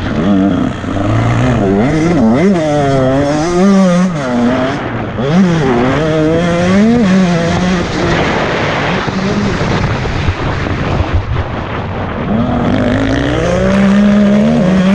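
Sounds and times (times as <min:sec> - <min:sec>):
motorbike engine revving: 0:00.0 - 0:11.2, 0:12.2 - 0:14.9.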